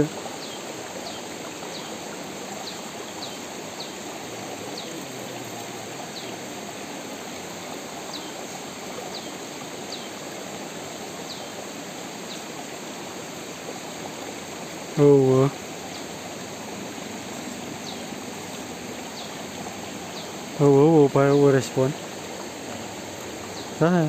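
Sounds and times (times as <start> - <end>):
stream water running over rocks: 0.0 - 24.0.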